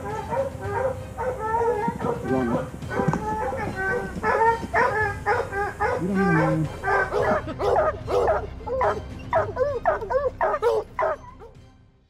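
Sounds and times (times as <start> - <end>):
hounds barking and baying: 0.0 - 11.6.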